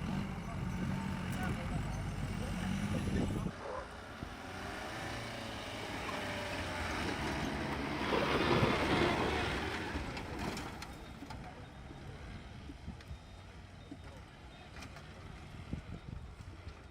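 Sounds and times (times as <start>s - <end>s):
vehicle engine under load: 0.0s - 16.9s.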